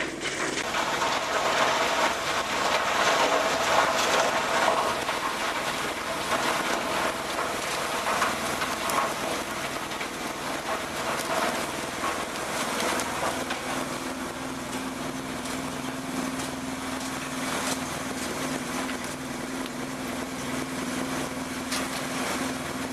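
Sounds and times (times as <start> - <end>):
wood breaking crackles: 0.0 - 22.9
wood crusher running: 0.0 - 22.9.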